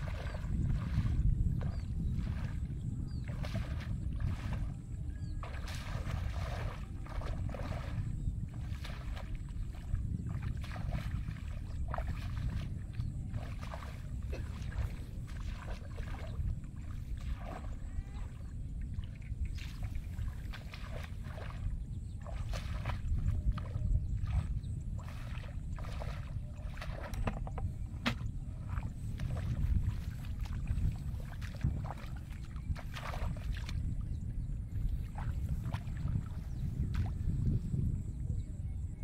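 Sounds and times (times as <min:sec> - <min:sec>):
footsteps through wet grass and water: 0:00.0 - 0:38.1
steady low rumble: 0:00.0 - 0:39.0.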